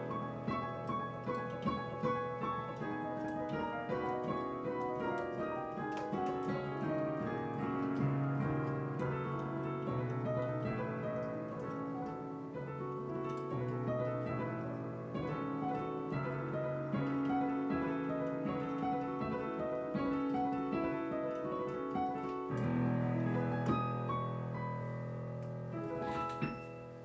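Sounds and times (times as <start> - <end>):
digital piano playing: 0.0 - 27.0.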